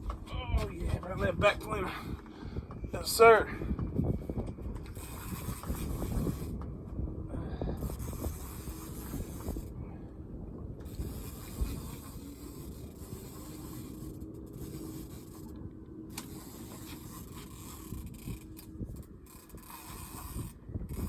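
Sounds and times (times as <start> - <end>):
faint steady hum: 0.0 - 21.0
wind buffeting microphone: 0.0 - 21.0.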